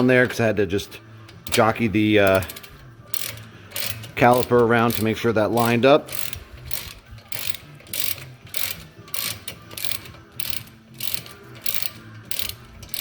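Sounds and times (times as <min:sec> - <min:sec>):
ratchet wrench clicking: 0:01.3 - 0:13.0.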